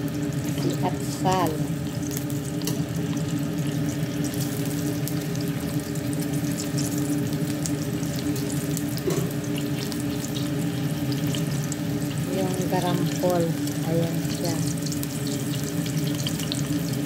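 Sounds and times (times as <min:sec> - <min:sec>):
garlic sizzling in oil: 0:00.0 - 0:17.0
low kitchen hum: 0:00.0 - 0:17.0.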